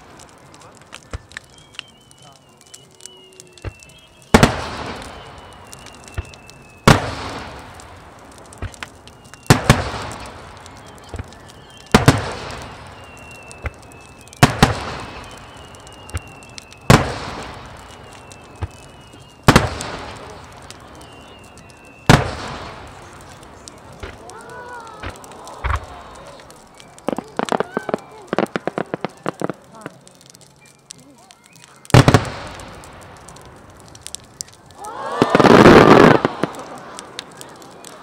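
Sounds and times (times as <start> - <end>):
fireworks bursting with bangs: 0.0 - 38.0
rumble after fireworks: 0.0 - 38.0.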